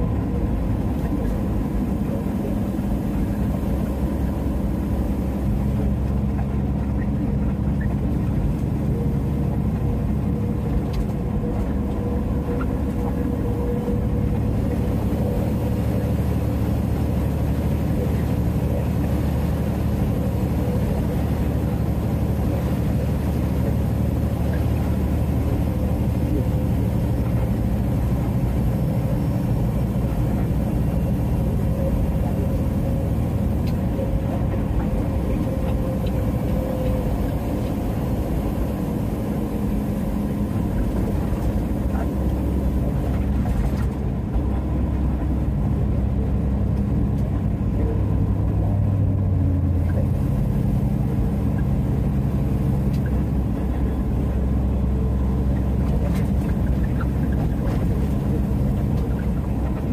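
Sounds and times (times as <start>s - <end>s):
diesel engine drone: 0.0s - 59.9s
tyre and road noise: 0.0s - 59.9s.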